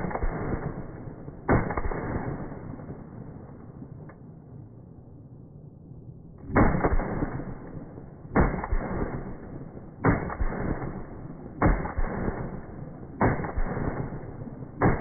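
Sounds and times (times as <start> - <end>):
slowed gunshot booms: 0.0 - 4.2, 6.4 - 15.0.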